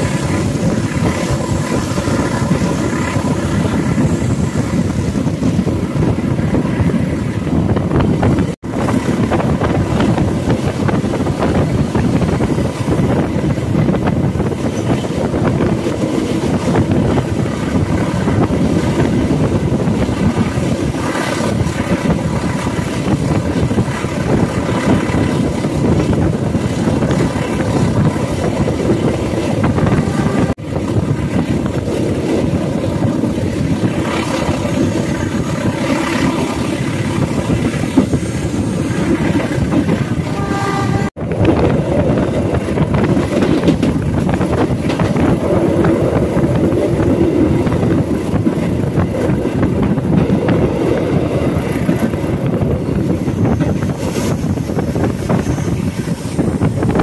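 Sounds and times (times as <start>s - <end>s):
train wheels rumbling: 0.0s - 57.0s
wind noise on microphone: 0.0s - 57.0s.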